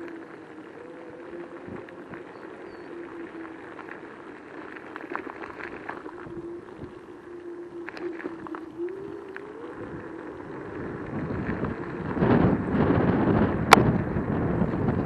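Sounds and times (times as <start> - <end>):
electric scooter motor whine: 0.0 - 15.0
tyres crackling on gravel: 0.0 - 15.0.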